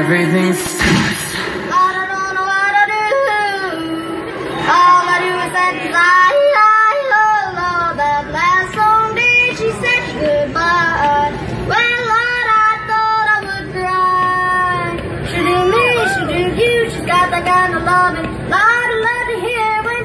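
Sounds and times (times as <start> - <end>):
pop song over pa speaker: 0.0 - 20.0.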